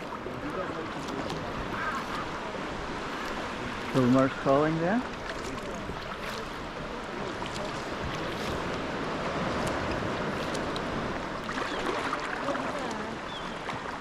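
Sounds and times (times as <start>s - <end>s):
water washing against kayak: 0.0s - 14.0s.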